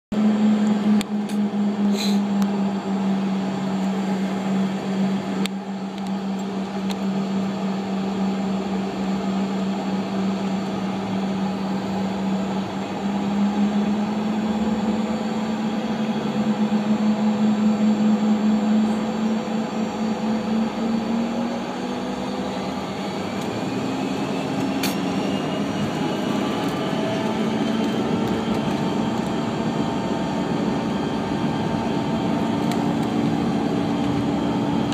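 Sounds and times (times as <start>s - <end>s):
jet cabin engine hum: 0.1s - 34.9s
faint rising whine: 0.2s - 34.9s.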